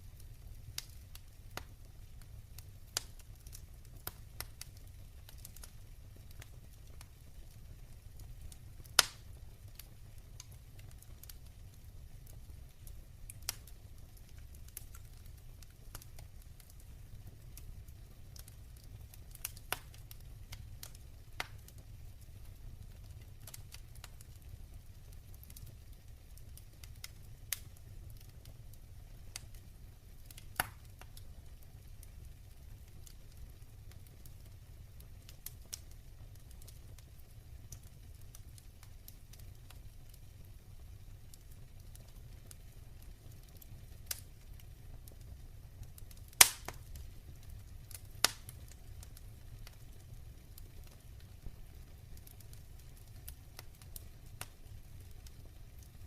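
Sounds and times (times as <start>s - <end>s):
fire crackling and popping: 0.0s - 56.0s
fire flames rumbling: 0.0s - 56.0s.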